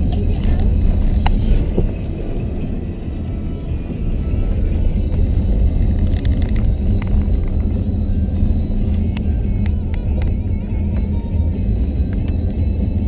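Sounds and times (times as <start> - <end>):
vehicle driving on gravel: 0.0 - 13.0.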